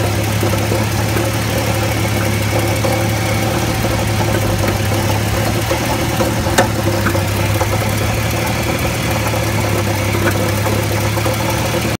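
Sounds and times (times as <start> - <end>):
car engine idling: 0.0 - 12.0
engine rattle: 0.0 - 12.0.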